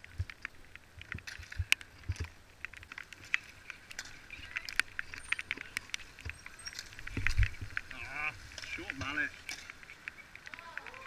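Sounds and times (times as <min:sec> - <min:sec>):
bicycles rolling on wet tarmac: 0:00.0 - 0:11.0.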